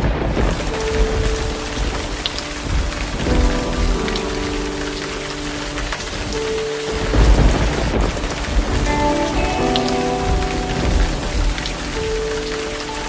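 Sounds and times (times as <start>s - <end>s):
rain hiss: 0.0s - 13.0s
soft music with held notes: 0.0s - 13.0s
thunder rumble: 0.0s - 13.0s.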